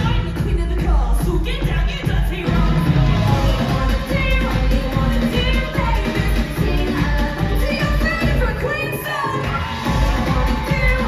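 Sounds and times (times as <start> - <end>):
women singing: 0.0 - 11.0.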